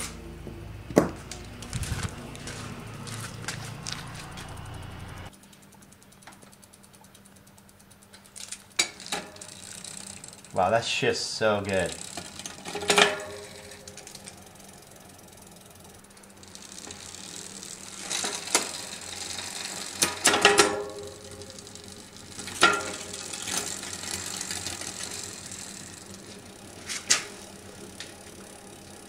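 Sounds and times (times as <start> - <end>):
bicycle chain running over gears: 1.3 - 29.0.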